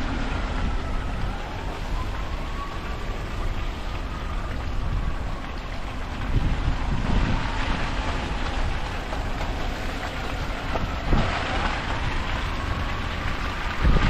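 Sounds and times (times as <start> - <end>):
road traffic: 0.0 - 14.0
wind rumbling on microphone: 0.0 - 14.0.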